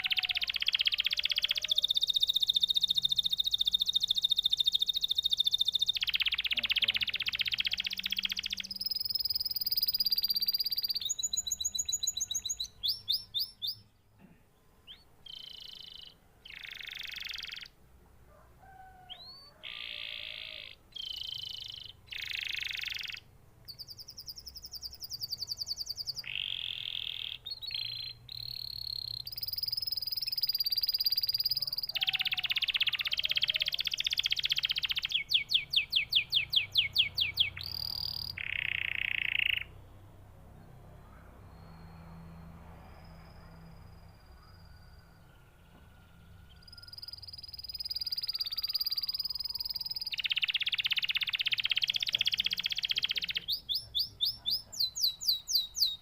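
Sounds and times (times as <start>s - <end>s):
canary singing trills: 0.0s - 14.1s, 14.8s - 17.8s, 18.8s - 56.0s.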